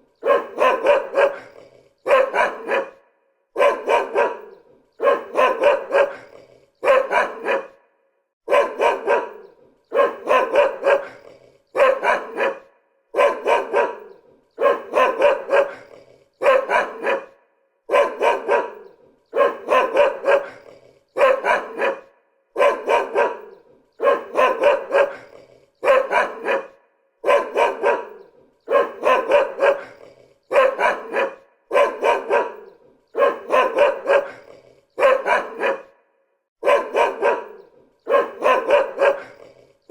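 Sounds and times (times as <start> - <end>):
dog barking: 0.0 - 39.9.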